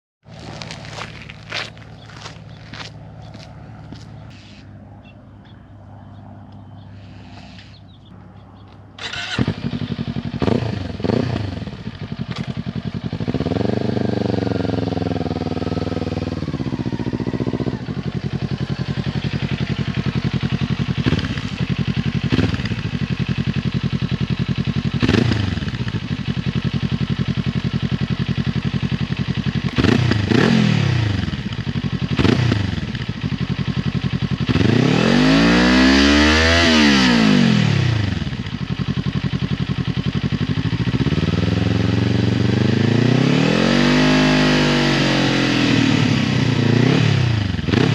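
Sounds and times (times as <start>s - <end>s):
motorcycle engine idling and revving: 0.3s - 47.9s.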